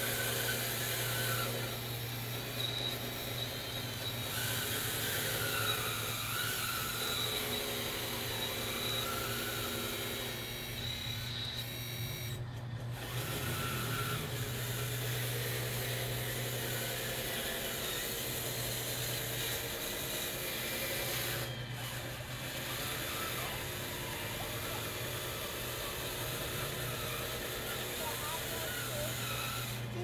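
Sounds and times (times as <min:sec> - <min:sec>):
toy bulldozer motor humming: 0:00.0 - 0:30.0.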